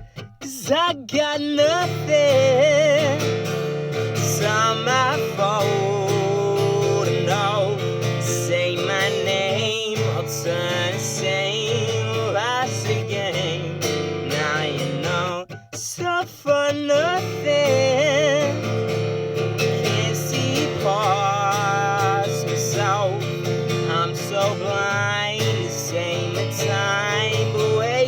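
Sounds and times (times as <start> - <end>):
acoustic guitar: 0.0 - 28.0
person singing: 0.0 - 28.0.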